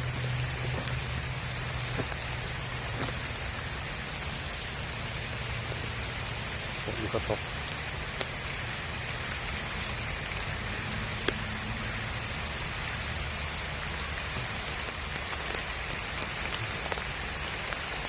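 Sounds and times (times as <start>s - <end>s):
raindrops tapping: 0.0s - 18.0s
steady rain falling: 0.0s - 18.0s.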